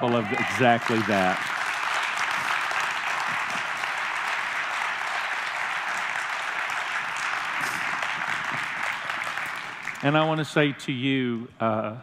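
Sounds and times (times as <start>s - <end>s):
congregation applauding: 0.0s - 10.8s.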